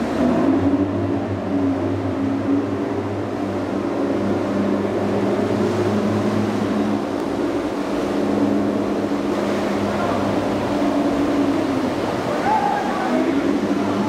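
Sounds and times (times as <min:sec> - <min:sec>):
boat engine droning: 0:00.0 - 0:14.0
churning water rushing: 0:00.0 - 0:14.0.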